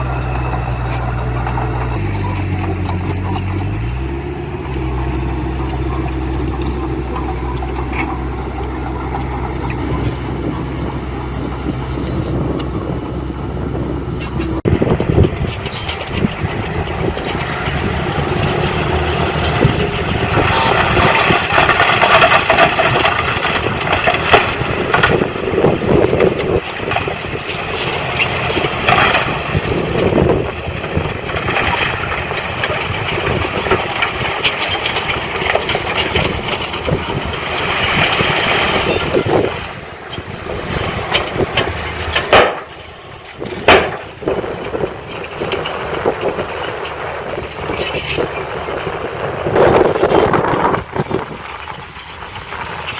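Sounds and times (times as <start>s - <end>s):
heavy machinery engines running: 0.0s - 52.9s.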